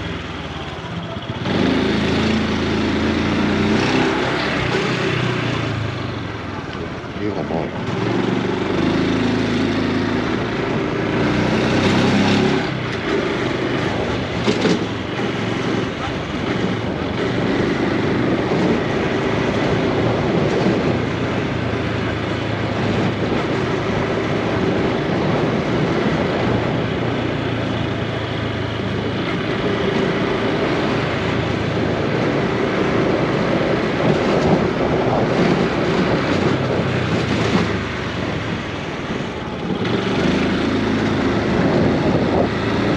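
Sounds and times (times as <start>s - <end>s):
motorcycle engine running: 0.0s - 42.9s
wind noise on microphone: 1.4s - 42.9s.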